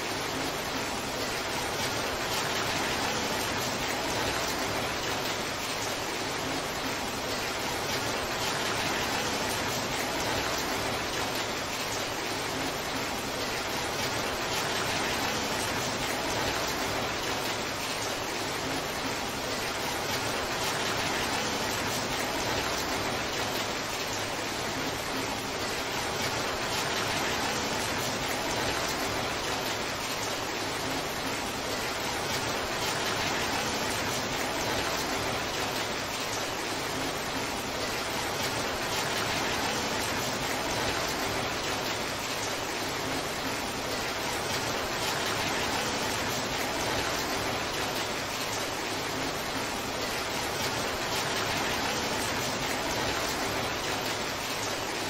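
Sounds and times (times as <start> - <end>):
torrential rain hissing: 0.0 - 55.0.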